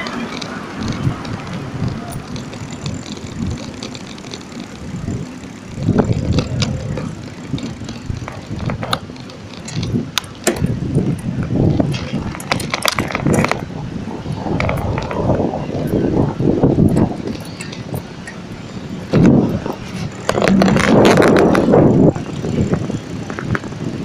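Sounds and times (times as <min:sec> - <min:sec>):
bike clicks and rattles: 0:00.0 - 0:24.0
road rumble: 0:00.0 - 0:24.0
wind buffeting microphone: 0:00.0 - 0:24.0.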